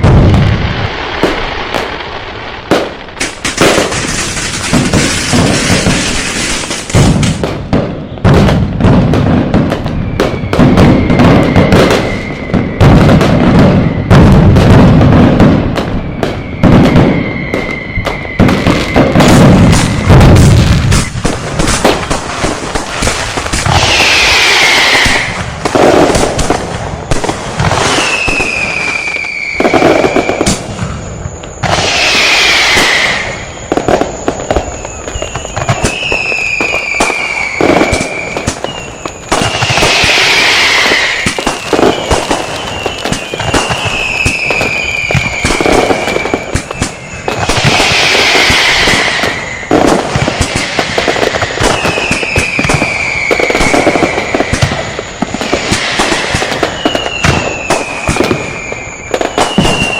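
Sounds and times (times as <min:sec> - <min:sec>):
firecrackers banging: 0:00.0 - 0:59.9
fireworks whistling: 0:00.0 - 0:59.9.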